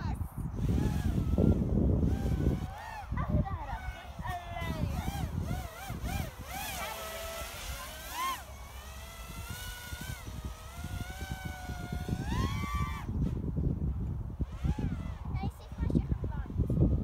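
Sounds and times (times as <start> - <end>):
quadcopter motors whining: 0.4 - 17.0.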